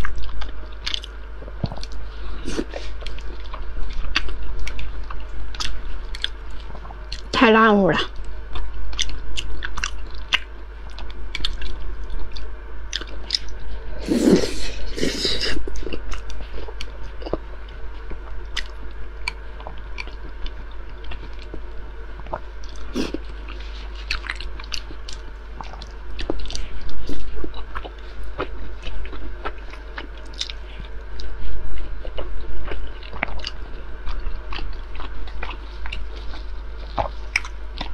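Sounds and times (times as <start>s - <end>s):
chewing and mouth sounds: 0.0s - 7.4s, 8.0s - 37.9s.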